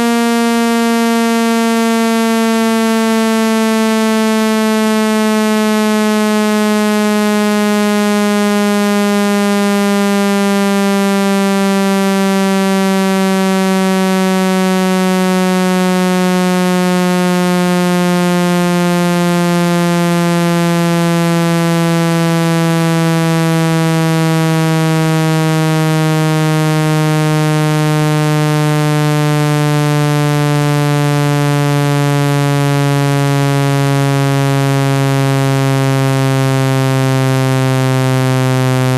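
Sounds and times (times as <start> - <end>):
harsh buzzing tone sliding down: 0.0 - 38.9.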